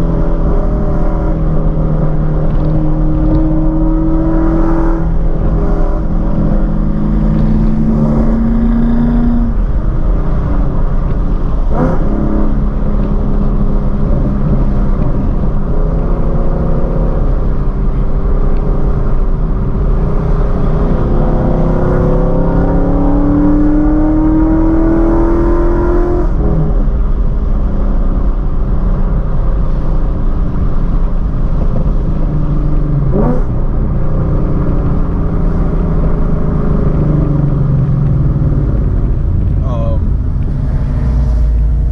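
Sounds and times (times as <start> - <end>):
car engine accelerating: 0.0 - 41.9
road rumble: 0.0 - 41.9.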